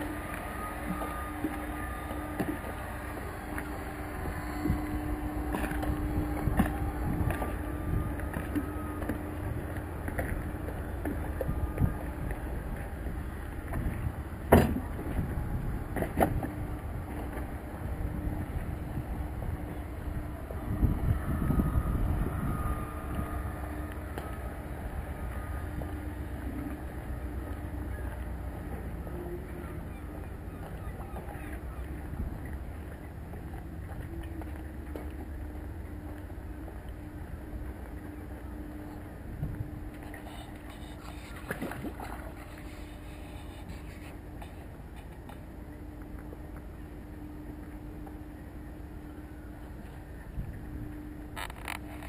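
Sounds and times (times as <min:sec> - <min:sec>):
machinery hum: 0:00.0 - 0:52.0
wind rumbling on microphone: 0:01.9 - 0:46.2, 0:49.4 - 0:52.0.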